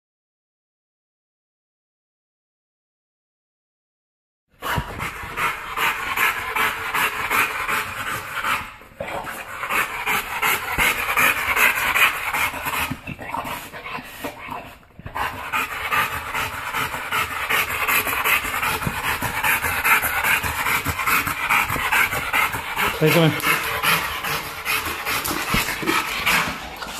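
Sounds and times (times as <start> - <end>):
dog panting hard: 4.6 - 26.9.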